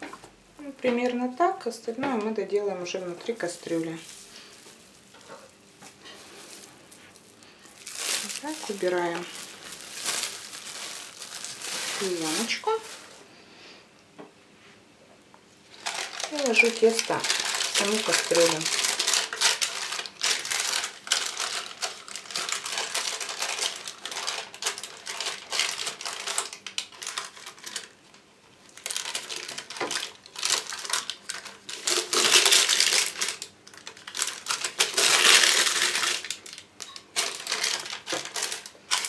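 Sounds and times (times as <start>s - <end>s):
baking paper rustling and crinkling: 1.9s - 13.3s, 15.7s - 39.0s.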